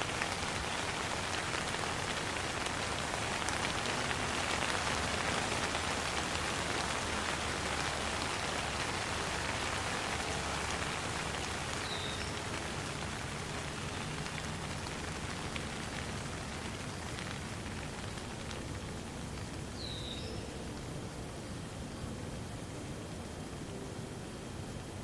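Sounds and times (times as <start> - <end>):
raindrop ticks: 0.0 - 20.9
steady rain hiss: 0.0 - 25.0.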